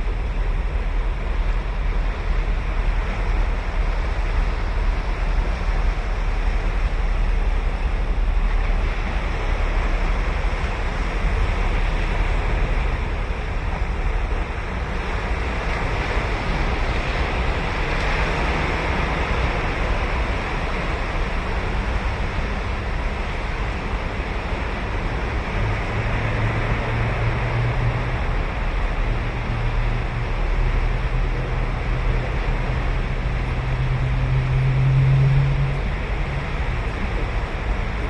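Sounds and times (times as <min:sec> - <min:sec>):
low engine hum: 0:00.0 - 0:38.0
ocean surf washing: 0:00.0 - 0:38.0.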